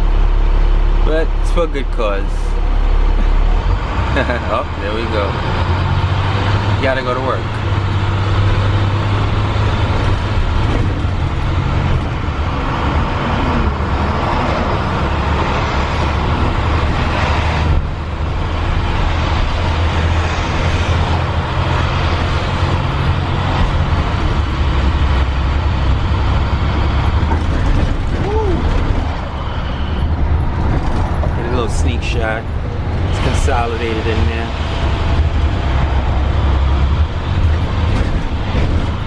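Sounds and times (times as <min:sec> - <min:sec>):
road noise: 0:00.0 - 0:39.0
vehicle engine hum: 0:00.0 - 0:39.0.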